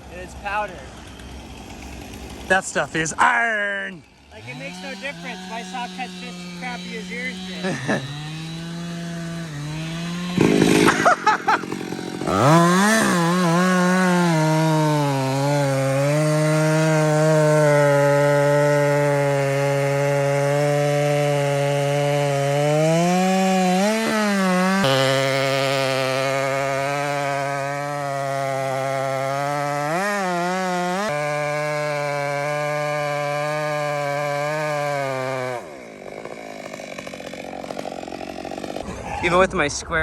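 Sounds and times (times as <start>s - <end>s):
chainsaw cutting wood: 0.0s - 39.4s.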